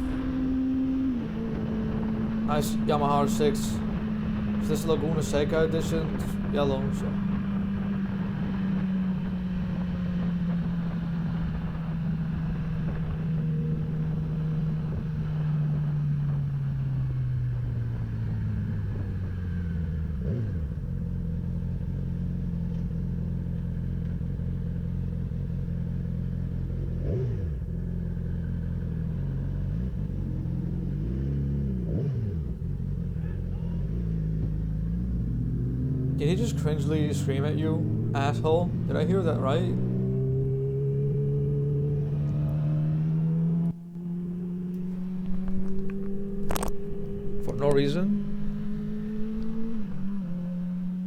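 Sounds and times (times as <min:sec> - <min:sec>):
motorcycle engine: 0:00.0 - 0:51.0.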